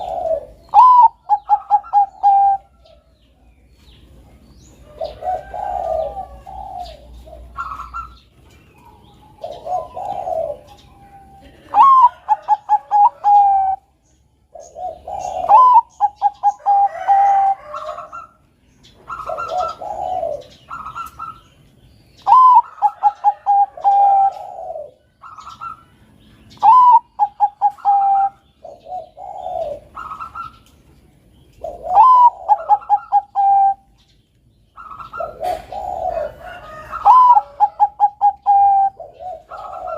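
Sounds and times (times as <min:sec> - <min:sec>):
dove cooing: 0:00.0 - 0:03.2, 0:03.8 - 0:21.6, 0:22.2 - 0:30.7, 0:31.4 - 0:34.1, 0:34.7 - 0:39.9.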